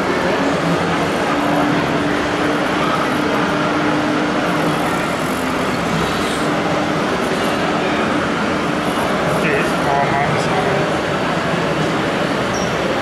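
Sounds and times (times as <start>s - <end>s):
dense background din: 0.0s - 13.0s.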